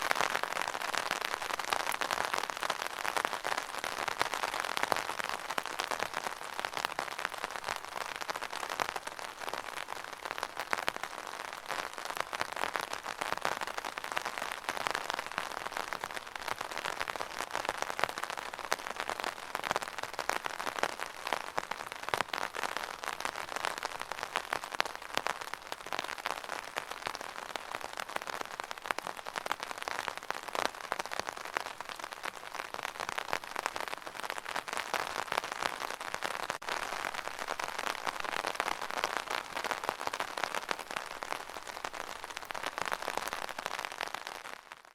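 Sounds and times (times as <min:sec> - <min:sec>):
rain pattering on an umbrella: 0:00.0 - 0:44.9.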